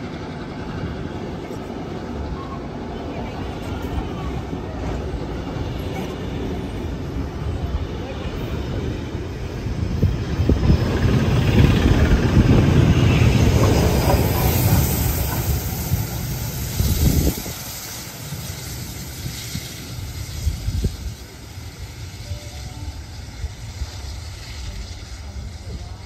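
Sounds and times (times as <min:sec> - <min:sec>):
steam train rumbling past: 0:00.0 - 0:26.0.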